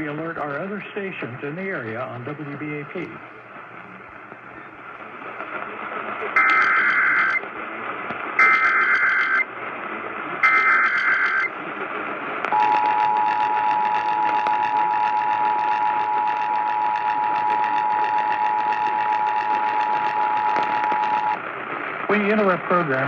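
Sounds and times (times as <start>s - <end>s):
broadcast hiss: 0.0s - 23.0s.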